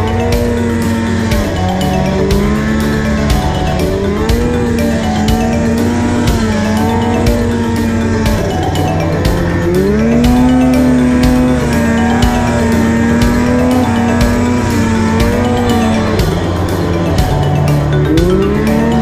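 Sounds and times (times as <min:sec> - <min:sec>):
background music with steady beat: 0:00.0 - 0:19.0
snowmobile engine revving: 0:00.0 - 0:19.0.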